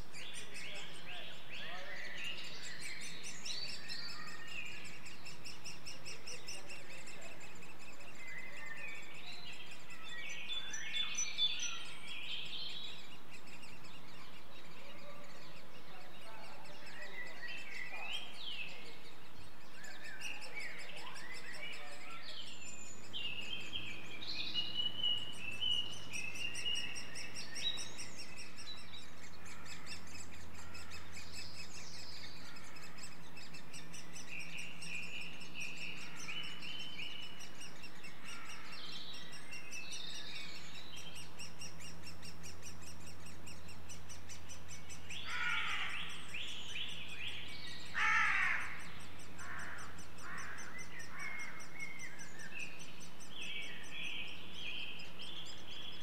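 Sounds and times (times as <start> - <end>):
birds chirping and singing: 0.0 - 56.0.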